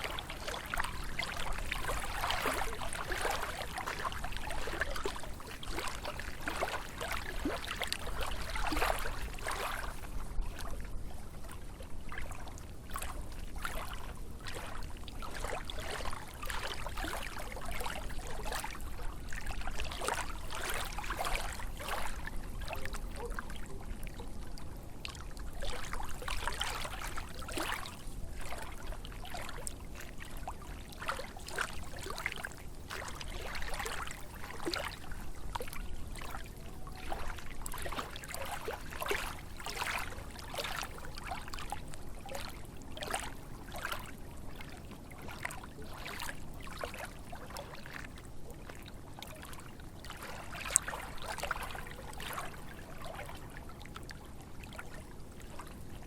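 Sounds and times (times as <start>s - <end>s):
lake waves lapping: 0.0s - 10.8s, 12.2s - 24.1s, 25.0s - 56.0s.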